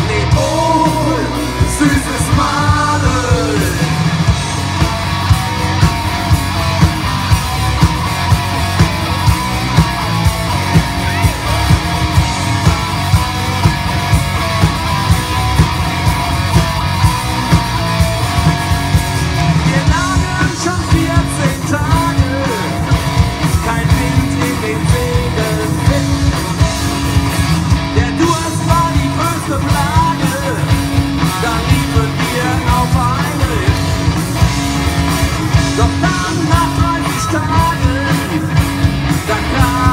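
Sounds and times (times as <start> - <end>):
bending guitar melody: 0.0 - 39.9
drum beat: 0.0 - 39.9
live rock band playing: 0.0 - 39.9.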